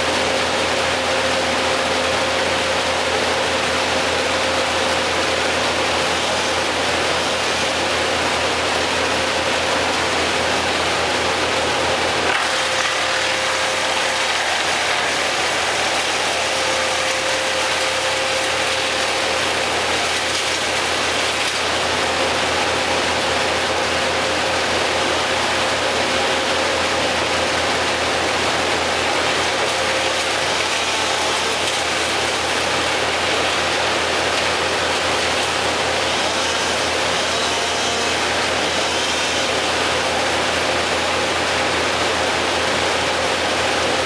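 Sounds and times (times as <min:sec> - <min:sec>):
machinery running: 0:00.0 - 0:44.0.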